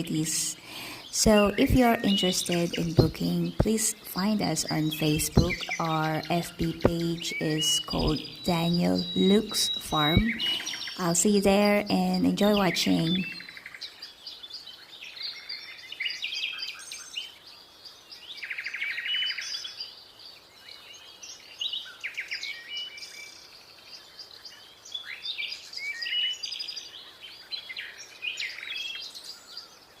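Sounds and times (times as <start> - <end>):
birds chirping and trilling: 0.0 - 30.0.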